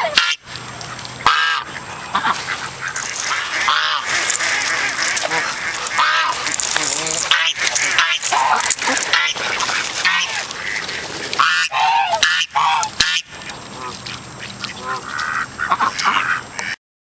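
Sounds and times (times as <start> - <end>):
ducks quacking: 0.0 - 16.8
geese honking: 0.0 - 16.8.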